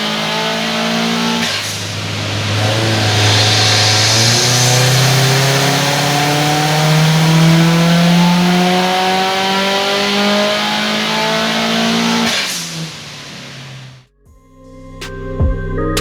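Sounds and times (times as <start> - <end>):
turbocharged car engine revving: 0.0 - 14.0.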